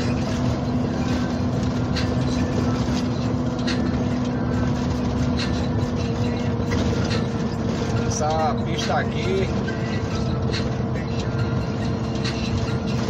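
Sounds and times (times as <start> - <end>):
road and tyre noise: 0.0 - 13.0
truck diesel engine humming: 0.0 - 13.0.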